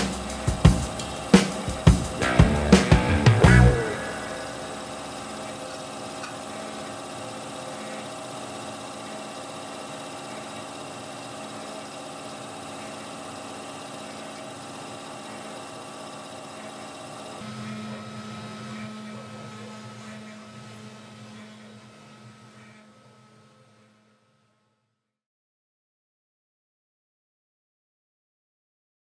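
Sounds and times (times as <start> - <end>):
workshop machinery humming: 0.0 - 24.3.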